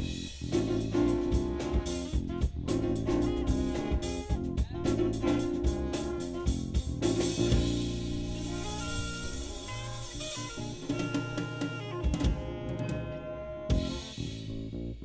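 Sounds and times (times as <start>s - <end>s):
drum kit beat: 0.0s - 14.8s
live funk band playing: 0.0s - 15.0s.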